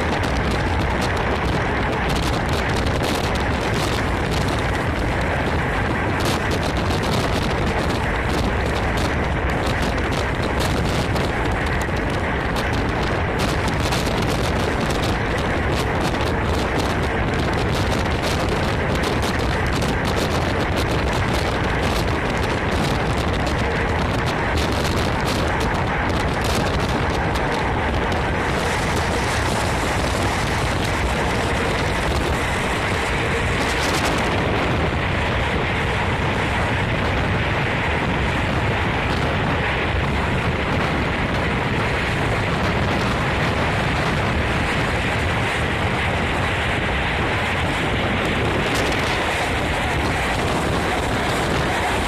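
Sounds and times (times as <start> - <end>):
train wheels rumbling on rails: 0.0 - 52.0
wind rushing on microphone: 0.0 - 52.0.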